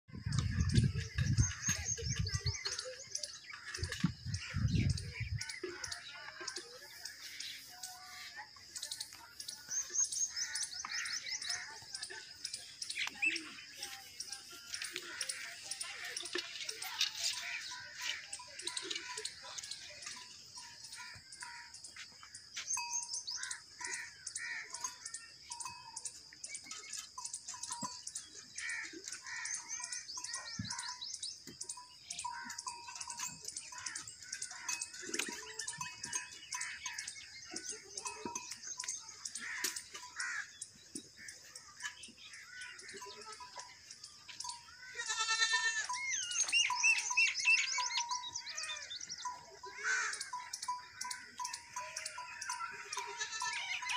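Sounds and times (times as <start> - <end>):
birds chirping and calling: 0.1 - 53.9.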